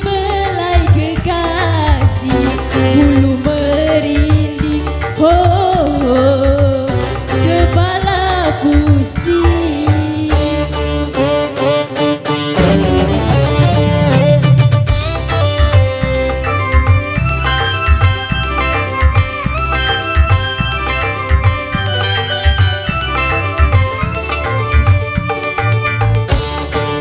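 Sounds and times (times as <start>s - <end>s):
drum beat: 0.0s - 10.5s, 12.6s - 27.0s
bass: 0.0s - 11.6s, 12.6s - 27.0s
bending melody line: 0.0s - 27.0s.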